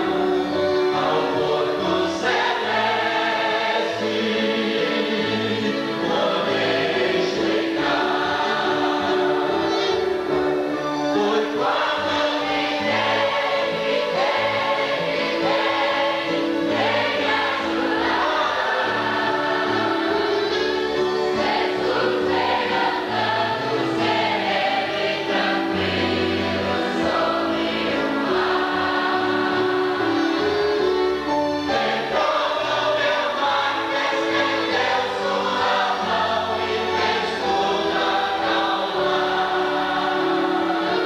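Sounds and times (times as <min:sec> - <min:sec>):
congregation singing a hymn: 0:00.0 - 0:41.0.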